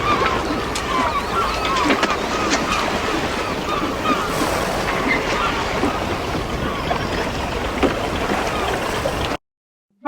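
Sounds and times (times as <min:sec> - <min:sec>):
curling bird calls: 0:00.0 - 0:09.4
sea surf washing: 0:00.0 - 0:09.4.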